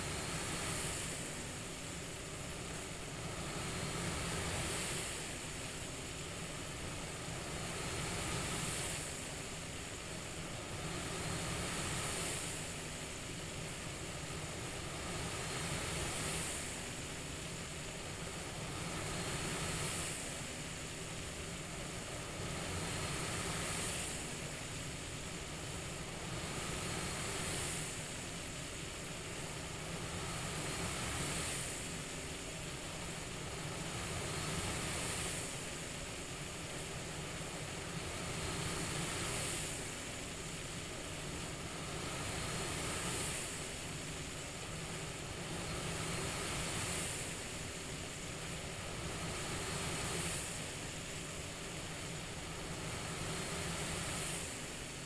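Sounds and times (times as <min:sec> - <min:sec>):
airflow hiss in breathing rhythm: 0:00.0 - 0:55.0.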